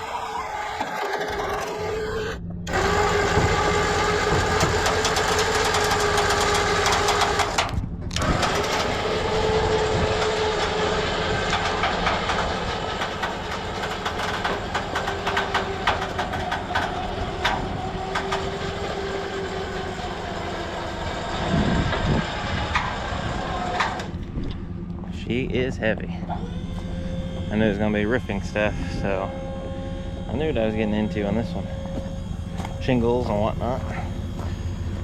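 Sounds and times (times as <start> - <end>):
truck engine whining rumble: 0.0 - 35.0.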